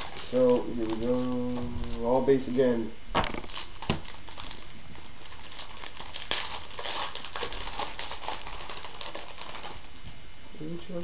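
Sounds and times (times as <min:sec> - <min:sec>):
foil wrapper crinkling: 0:00.0 - 0:02.6, 0:03.2 - 0:10.1.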